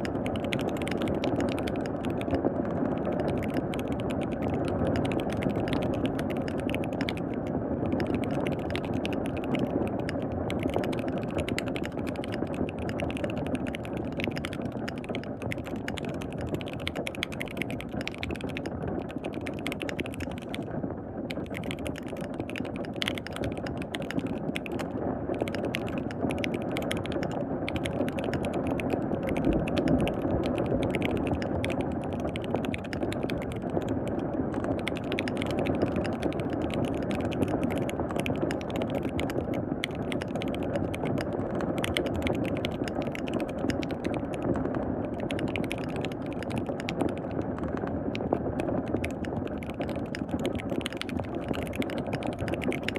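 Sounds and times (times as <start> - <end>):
fast typing on mechanical keyboard: 0.0 - 52.9.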